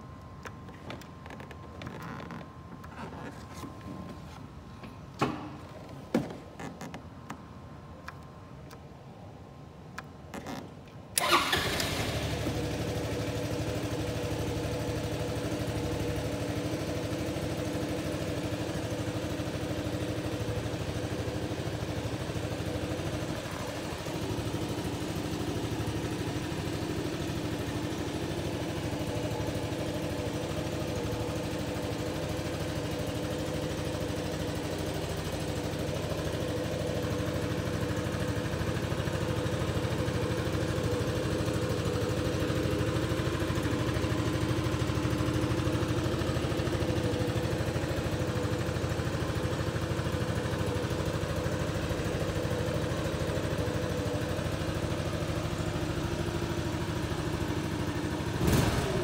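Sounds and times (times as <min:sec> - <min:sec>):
scooter engine starting and idling: 0:00.0 - 0:04.1, 0:10.3 - 0:59.0.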